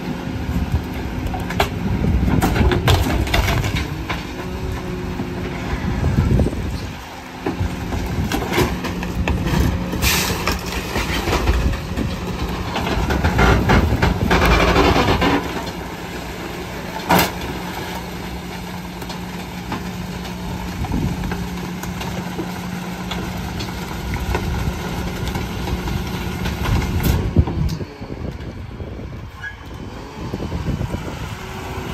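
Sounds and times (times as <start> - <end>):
garbage truck humming: 0.0 - 31.9.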